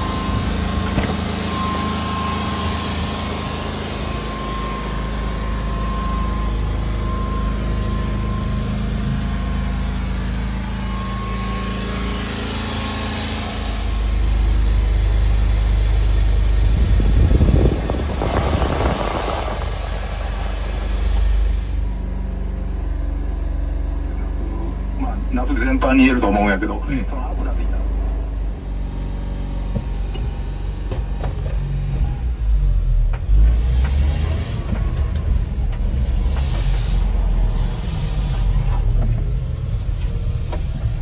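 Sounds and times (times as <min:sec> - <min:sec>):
small engine idling: 0:00.0 - 0:41.0.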